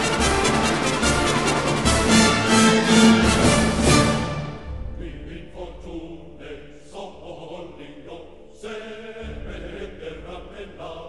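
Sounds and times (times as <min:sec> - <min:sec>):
choir singing chords: 0:00.0 - 0:11.0.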